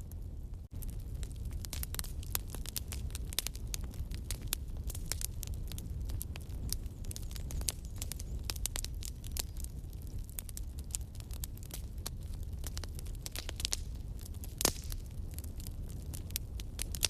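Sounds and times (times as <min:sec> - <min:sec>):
burning wood crackling and popping: 0:00.0 - 0:17.0
campfire flames rumbling: 0:00.0 - 0:17.0.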